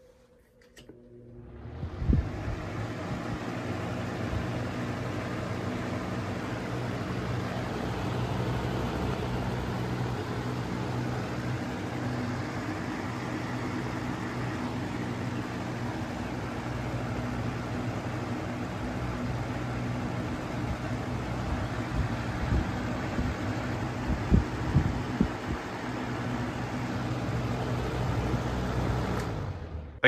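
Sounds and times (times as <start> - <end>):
box fan humming: 0.0 - 30.0.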